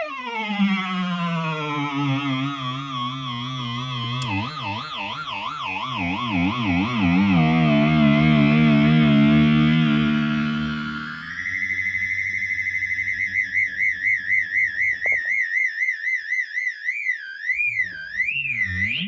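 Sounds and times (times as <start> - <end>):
wavering electronic whine: 0.0 - 15.6, 16.9 - 19.0.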